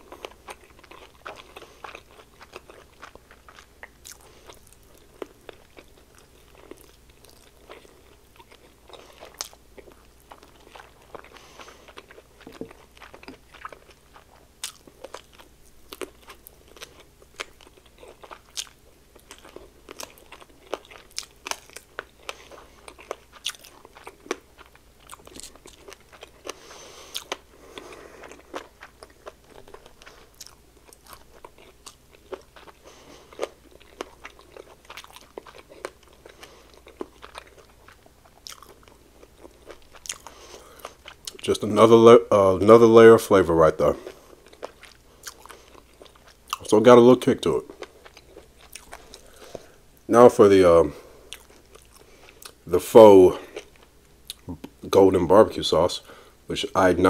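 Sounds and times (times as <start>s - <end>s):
crunchy chewing of fried chicken: 0.0s - 56.5s.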